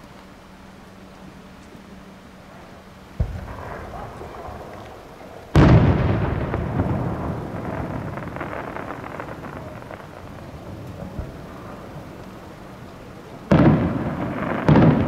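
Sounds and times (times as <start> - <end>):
fireworks crackling: 0.0 - 15.0
fireworks booming: 2.7 - 15.0.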